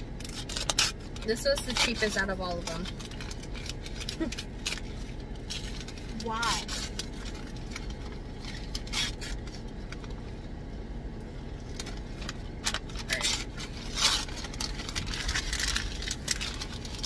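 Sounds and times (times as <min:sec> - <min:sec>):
wrapping paper tearing and rustling: 0:00.0 - 0:10.2, 0:11.6 - 0:17.0
low rumble: 0:00.0 - 0:17.0.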